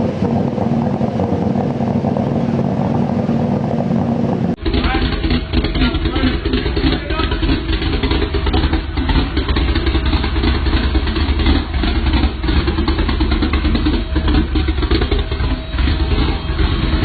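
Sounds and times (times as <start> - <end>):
loud engine exhaust rumbling: 0.0 - 17.0.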